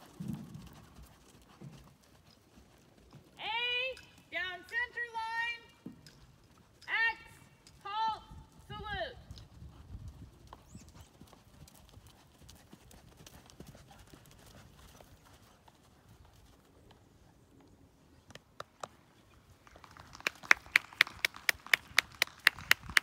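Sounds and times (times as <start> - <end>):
horse hooves on sand: 0.0 - 23.0.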